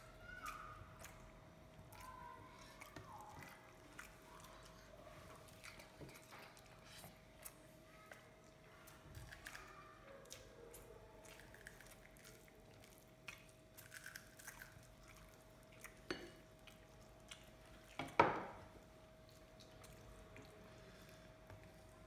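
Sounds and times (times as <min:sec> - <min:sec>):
fingers squishing food: 0:00.0 - 0:18.2
faint steady hum: 0:00.0 - 0:22.0.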